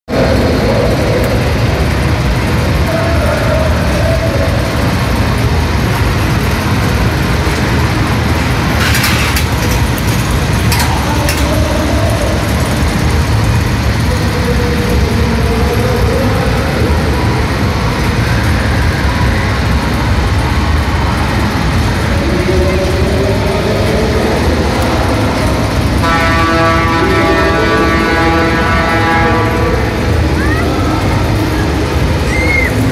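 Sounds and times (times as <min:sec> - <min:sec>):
amusement ride machinery rumbling: 0:00.1 - 0:32.9
sharp rattling of coaster car: 0:00.2 - 0:27.1.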